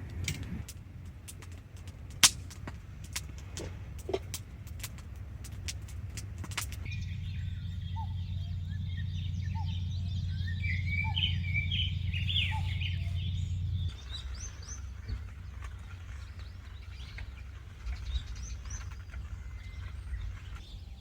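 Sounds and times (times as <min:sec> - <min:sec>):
birds singing and chirping: 0:00.0 - 0:21.0
steady low hum: 0:00.0 - 0:21.0.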